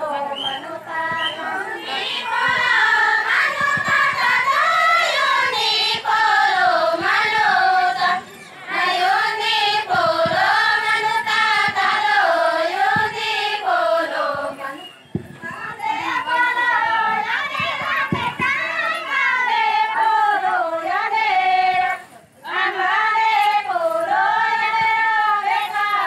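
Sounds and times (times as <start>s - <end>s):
women singing in unison: 0.0s - 26.0s.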